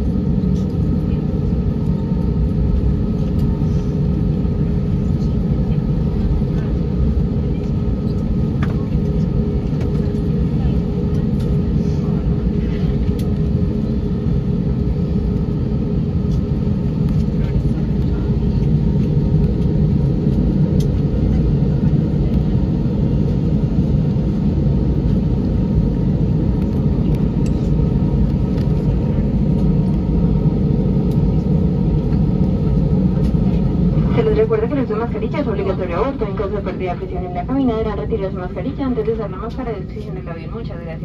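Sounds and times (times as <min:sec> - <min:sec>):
jet engines and cabin air rumble: 0:00.0 - 0:41.0
steady hum: 0:00.0 - 0:41.0.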